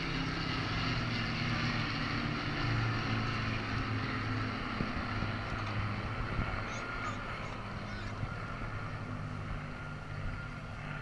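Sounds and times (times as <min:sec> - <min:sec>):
propeller planes droning past: 0:00.0 - 0:11.0.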